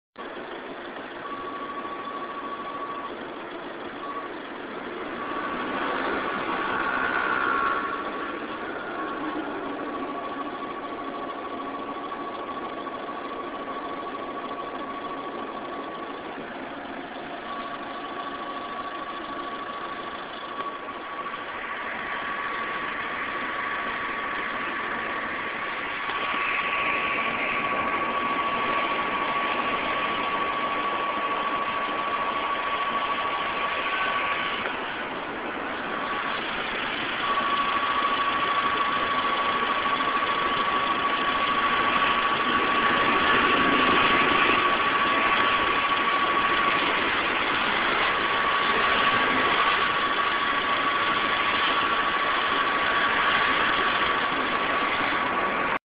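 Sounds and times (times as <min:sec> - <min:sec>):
diesel engine idling: 0:00.2 - 0:55.8
high-pitched whine: 0:00.2 - 0:55.8.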